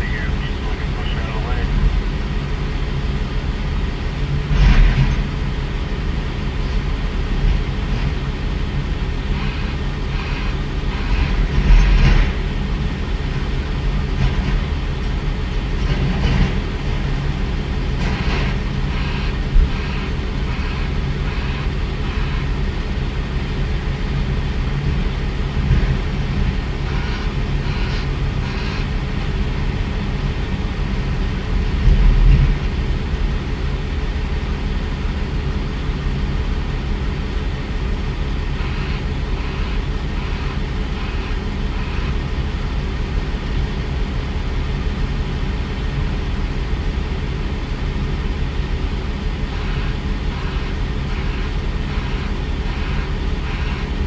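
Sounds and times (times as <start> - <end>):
heavy diesel machinery rumbling: 0.0 - 54.0.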